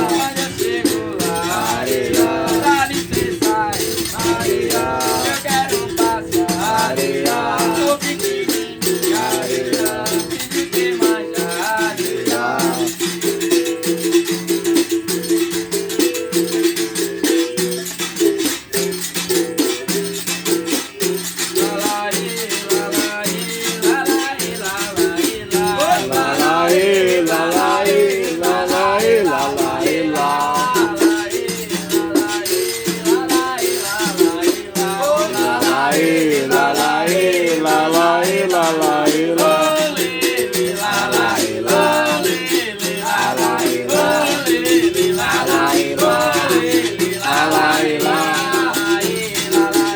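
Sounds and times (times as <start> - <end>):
person singing: 0.0 - 13.1, 21.0 - 49.9
shaken rattle: 0.0 - 49.9.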